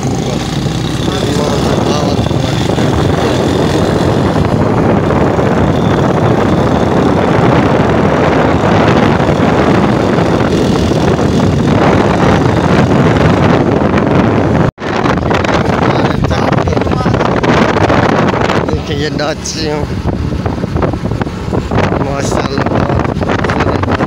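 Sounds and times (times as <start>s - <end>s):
motorcycle engine and road noise: 0.0s - 24.0s
wind rushing over microphone: 0.0s - 24.0s.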